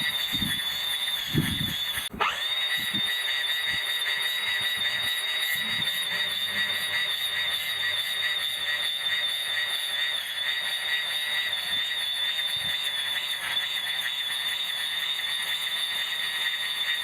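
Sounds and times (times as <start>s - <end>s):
electric grass trimmer whining: 0.0s - 17.0s.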